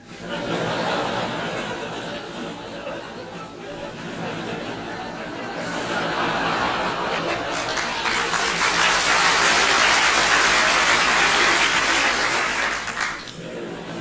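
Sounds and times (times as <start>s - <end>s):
crowd laughing: 0.0s - 14.0s.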